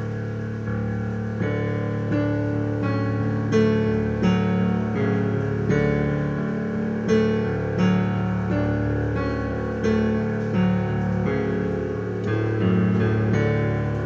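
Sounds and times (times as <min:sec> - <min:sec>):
slow piano notes: 0:00.0 - 0:14.0.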